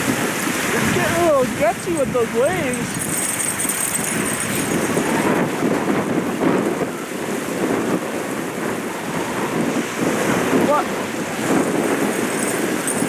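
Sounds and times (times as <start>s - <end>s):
choppy waves breaking: 0.0s - 13.0s
wind rumbling on microphone: 0.0s - 13.0s.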